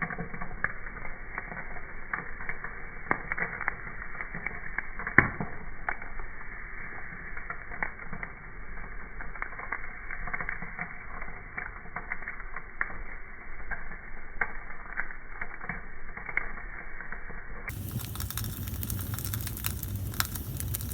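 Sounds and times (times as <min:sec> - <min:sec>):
campfire crackling and popping: 0:00.0 - 0:20.9
low fire hiss: 0:00.0 - 0:20.9.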